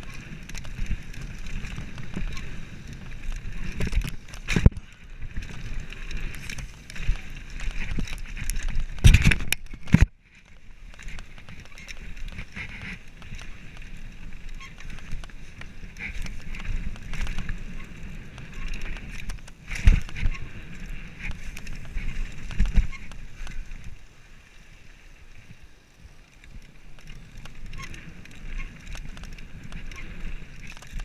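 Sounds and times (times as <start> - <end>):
wind on microphone: 0.0 - 24.1, 26.4 - 31.0
bike rattling over bumps: 0.0 - 31.0
bike tyres rolling over dirt: 0.0 - 31.0.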